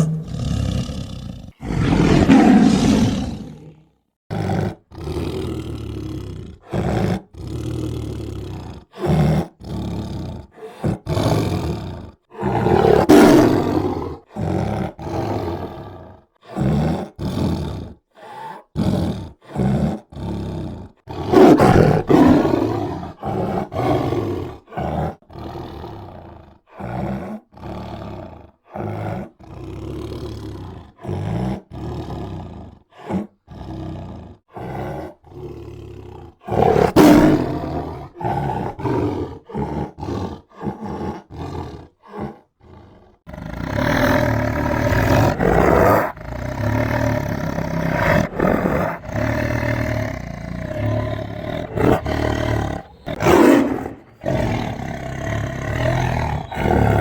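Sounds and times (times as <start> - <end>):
tiger growling and roaring: 0.0 - 57.0.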